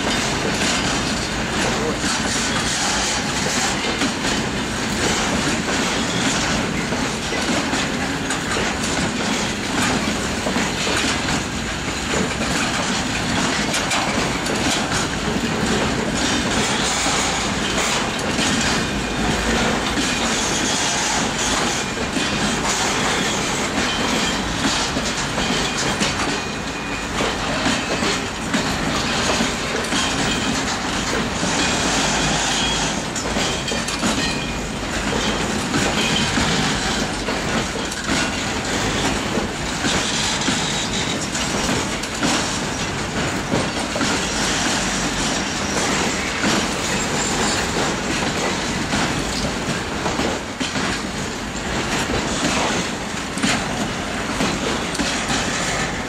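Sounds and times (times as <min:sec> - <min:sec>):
freight train wheels clattering: 0:00.0 - 0:56.0.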